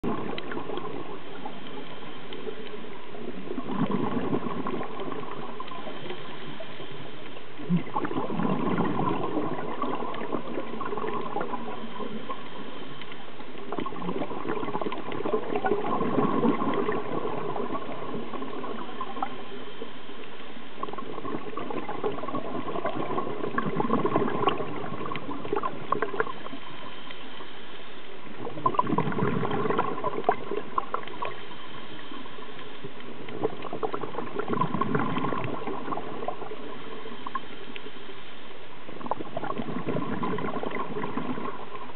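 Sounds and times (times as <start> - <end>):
bubbles gurgling underwater: 0.0 - 12.7, 13.5 - 19.8, 20.8 - 26.7, 28.2 - 31.5, 32.1 - 37.8, 38.9 - 41.9.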